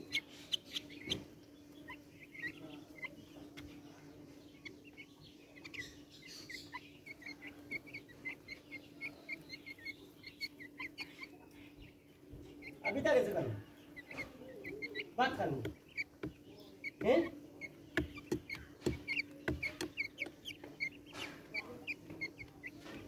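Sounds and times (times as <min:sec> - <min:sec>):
young chickens peeping: 0:00.0 - 0:23.0.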